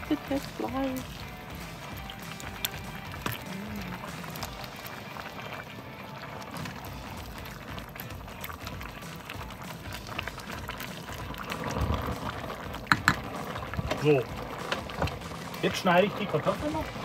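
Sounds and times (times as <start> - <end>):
stew simmering and bubbling: 0.0 - 17.0.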